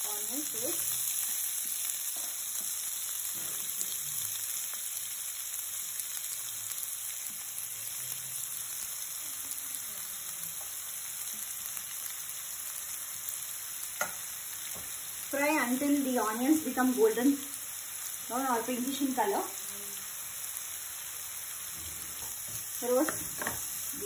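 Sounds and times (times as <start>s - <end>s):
onions sizzling in hot fat: 0.0s - 24.0s.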